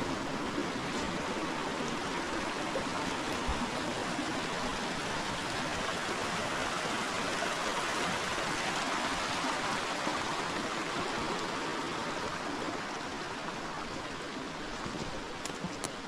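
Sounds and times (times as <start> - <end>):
river water flowing over stones: 0.0 - 16.0.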